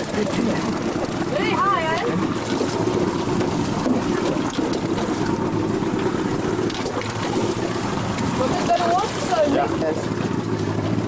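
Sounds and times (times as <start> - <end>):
outboard motors droning: 0.0 - 11.0.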